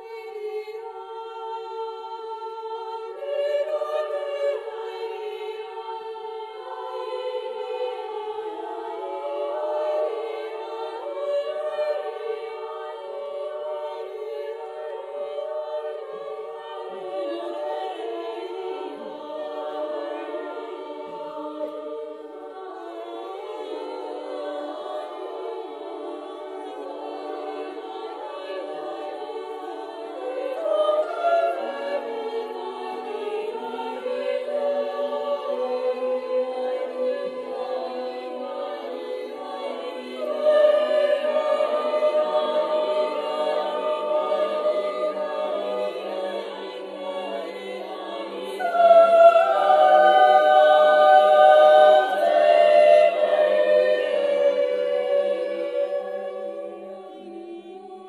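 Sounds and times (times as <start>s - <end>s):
women's choir singing a cappella: 0.0s - 58.0s.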